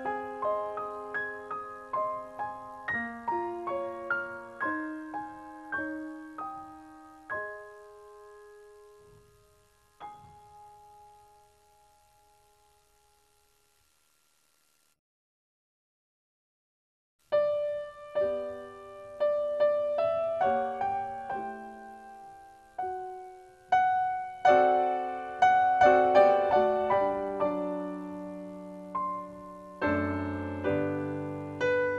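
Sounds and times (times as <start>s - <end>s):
slow piano music: 0.0s - 13.2s, 17.3s - 31.9s.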